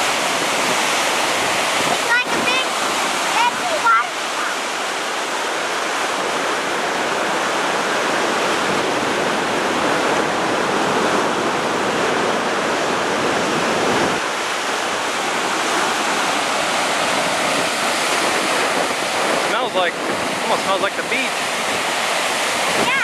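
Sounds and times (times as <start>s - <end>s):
whitewater rushing below a dam: 0.0s - 23.0s.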